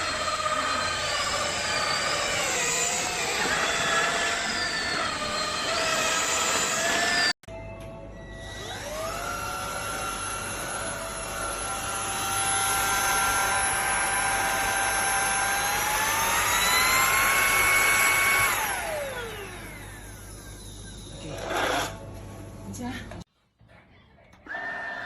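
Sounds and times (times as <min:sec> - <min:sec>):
handheld vacuum cleaner whine: 0:00.0 - 0:07.4, 0:08.2 - 0:22.0.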